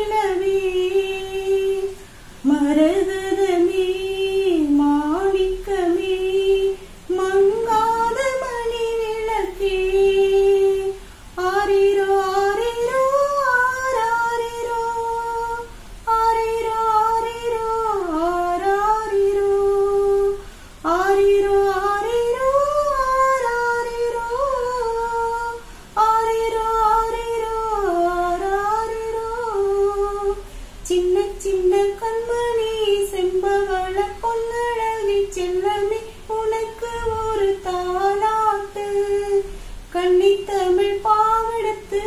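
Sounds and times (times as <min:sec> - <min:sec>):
woman singing unaccompanied: 0:00.0 - 0:42.0.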